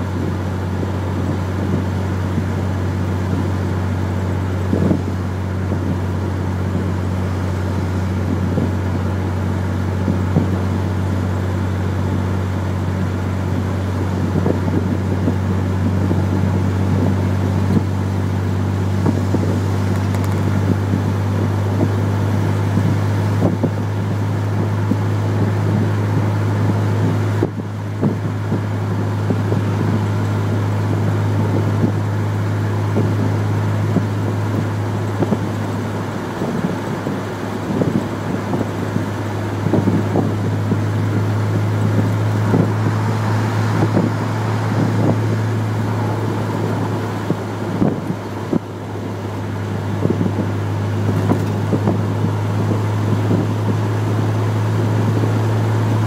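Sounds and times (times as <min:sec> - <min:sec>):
car engine droning: 0:00.0 - 0:56.0
road and wind noise: 0:00.0 - 0:56.0.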